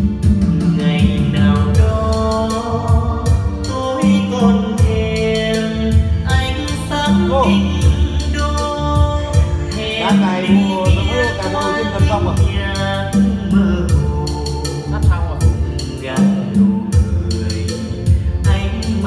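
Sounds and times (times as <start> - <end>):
heavy bass beat: 0.0 - 19.0
person singing: 0.0 - 19.0.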